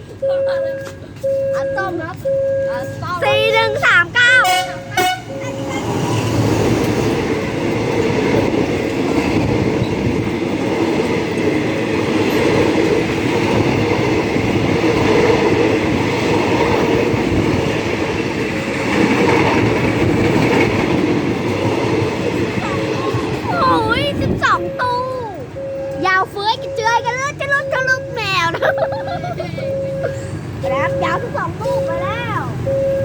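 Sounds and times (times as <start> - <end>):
passenger train passing: 0.0 - 33.0.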